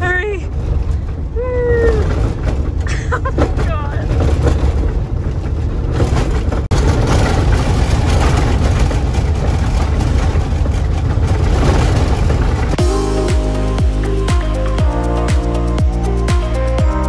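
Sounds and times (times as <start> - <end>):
dense rattling: 0.0 - 16.8
van engine and road rumble: 0.0 - 17.0.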